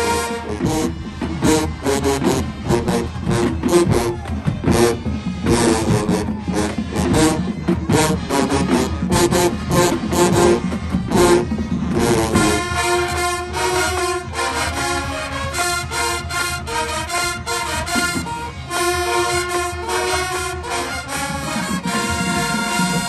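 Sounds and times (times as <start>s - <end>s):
marching band brass playing: 0.0s - 23.0s.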